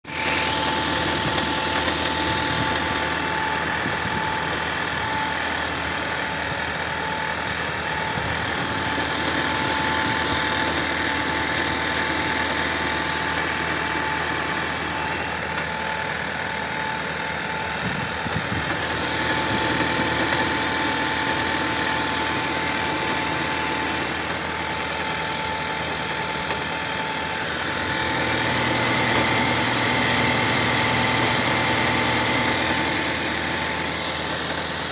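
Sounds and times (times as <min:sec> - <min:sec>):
car engine running rough: 0:00.0 - 0:34.9.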